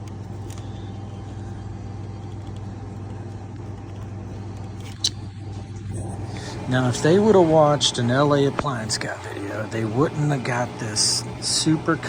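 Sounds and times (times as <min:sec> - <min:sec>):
dishwasher motor humming: 0:00.0 - 0:12.0.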